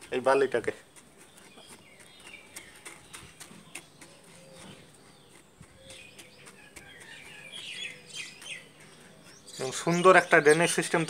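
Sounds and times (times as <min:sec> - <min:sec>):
faint birds chirping: 0:00.0 - 0:11.0
gritty sand crunches: 0:00.0 - 0:11.0.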